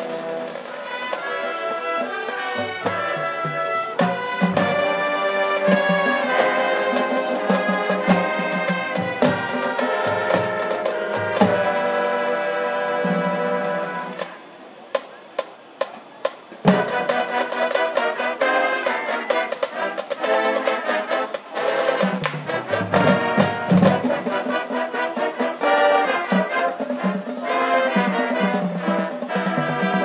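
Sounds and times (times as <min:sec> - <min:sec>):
marching band playing: 0:00.0 - 0:30.0.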